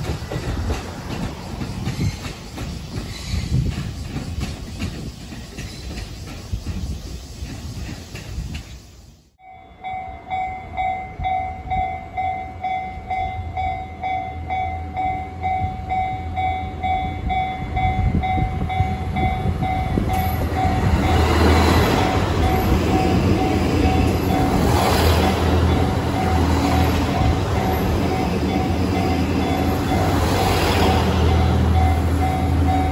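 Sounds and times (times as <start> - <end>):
train passing at speed: 0.0 - 32.9.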